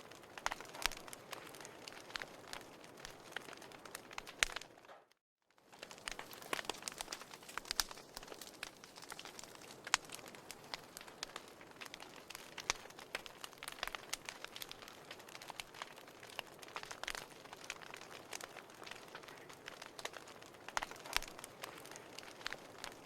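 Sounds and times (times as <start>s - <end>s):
firewood crackling and popping: 0.0s - 23.0s.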